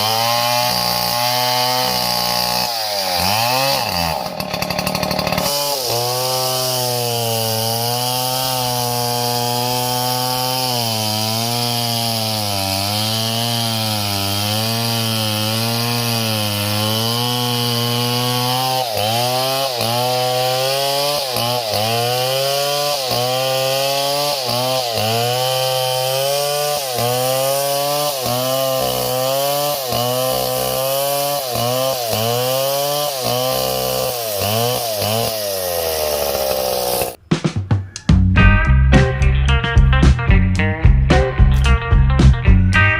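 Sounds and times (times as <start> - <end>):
chainsaw cutting wood: 0.0 - 37.2.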